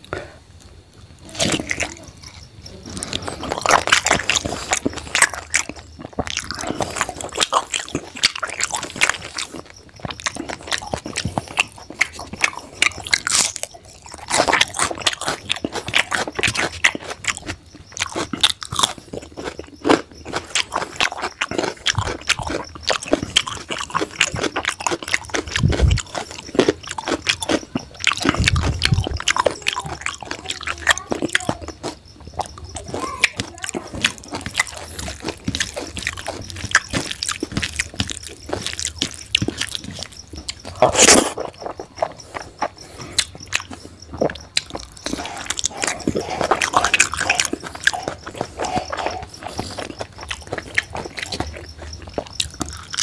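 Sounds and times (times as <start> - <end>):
crunching carrot bites: 0.0 - 53.0
wet chewing mouth sounds: 0.0 - 53.0.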